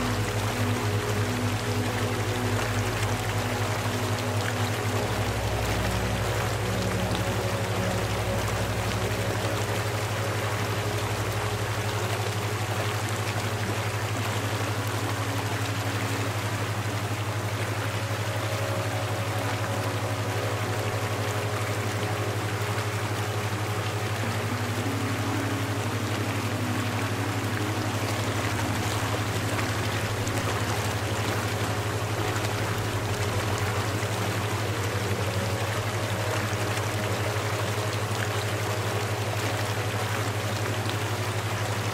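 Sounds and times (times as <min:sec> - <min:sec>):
low constant hum: 0:00.0 - 0:41.9
rushing water: 0:00.0 - 0:41.9.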